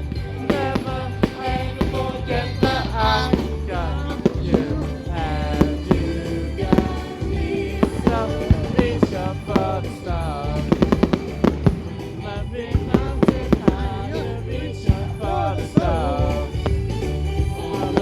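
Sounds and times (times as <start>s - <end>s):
fireworks bangs and crackles: 0.0s - 18.0s
pop music with singing: 0.0s - 18.0s
steady bass: 0.0s - 18.0s.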